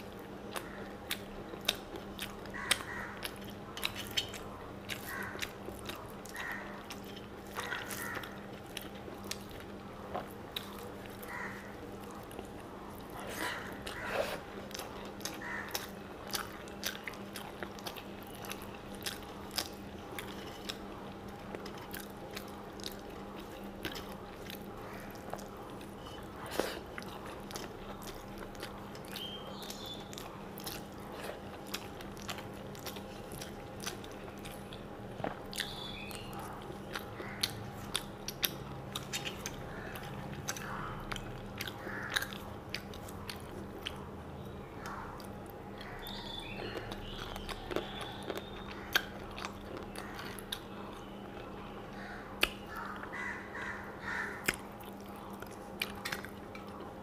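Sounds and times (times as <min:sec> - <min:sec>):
chewing with wet mouth clicks: 0:00.0 - 0:57.0
food crunching: 0:00.0 - 0:57.0
steady low hum: 0:00.0 - 0:57.0.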